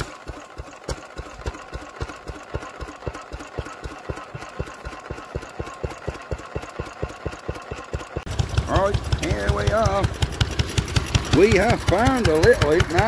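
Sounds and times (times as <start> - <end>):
single-cylinder engine thumping: 0.0 - 13.0.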